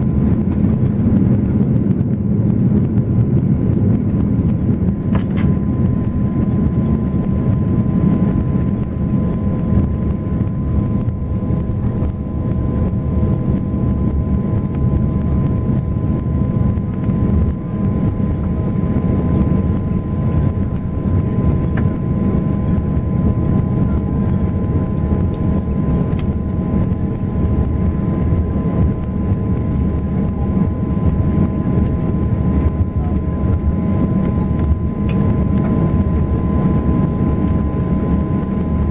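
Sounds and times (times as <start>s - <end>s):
airplane cabin engine rumble: 0.0s - 38.9s
thin steady whine: 0.0s - 38.9s.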